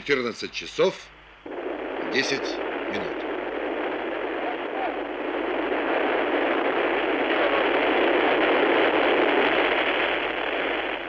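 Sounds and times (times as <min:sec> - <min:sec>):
rocket engines rushing: 0:01.5 - 0:11.0.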